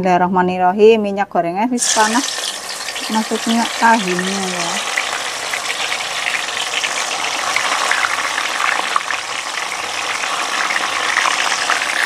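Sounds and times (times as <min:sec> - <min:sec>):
tofu sizzling in oil: 0:01.8 - 0:12.0.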